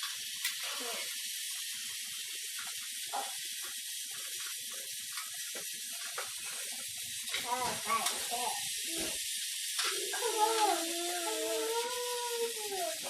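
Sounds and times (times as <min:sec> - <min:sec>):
camcorder recording hiss: 0:00.0 - 0:13.0.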